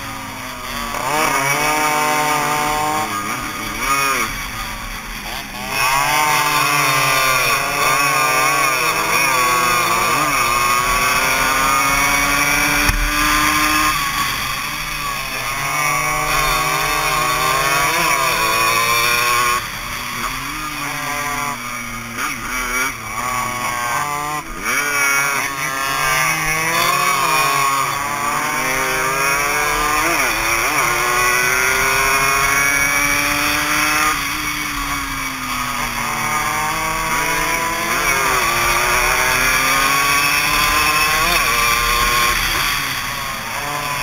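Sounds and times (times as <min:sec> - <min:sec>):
motorcycle engine revving: 0:00.0 - 0:44.0
other motorcycle engines: 0:00.0 - 0:44.0.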